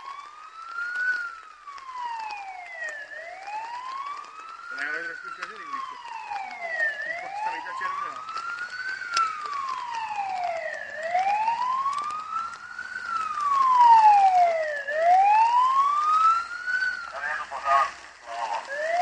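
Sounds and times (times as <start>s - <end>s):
police siren wailing: 0.0s - 19.0s.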